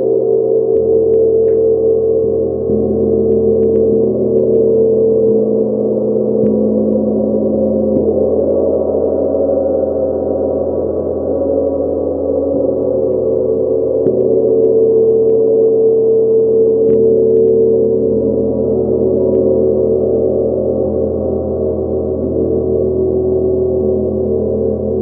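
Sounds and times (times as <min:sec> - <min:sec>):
gong ringing: 0:00.0 - 0:25.0.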